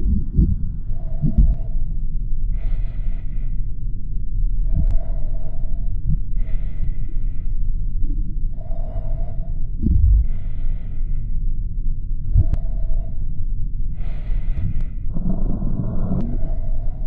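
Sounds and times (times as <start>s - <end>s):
dull low thumps: 0.0s - 17.0s
heavy laboured breathing: 0.0s - 17.0s
low rumble: 0.0s - 17.0s.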